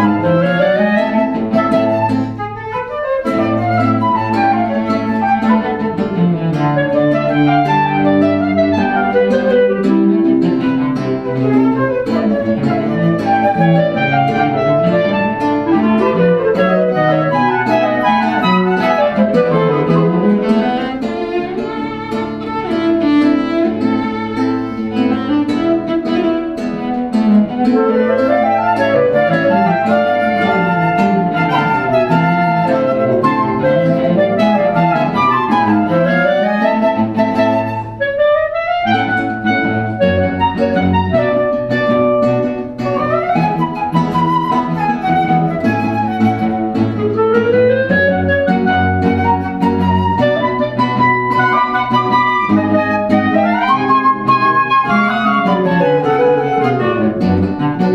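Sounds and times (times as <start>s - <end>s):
instrumental music: 0.0s - 57.9s.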